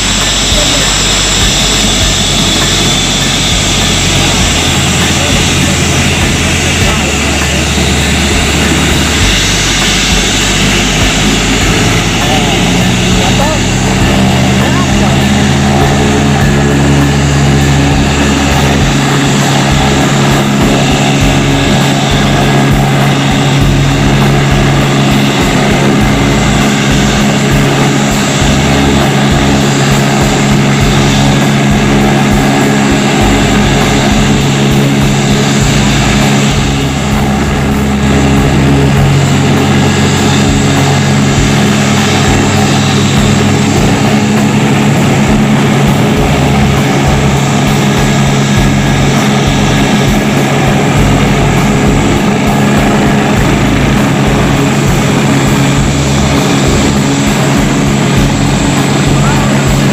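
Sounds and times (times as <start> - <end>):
helicopter rotor drone: 0.0 - 59.9
helicopter turbine whine: 0.0 - 59.9.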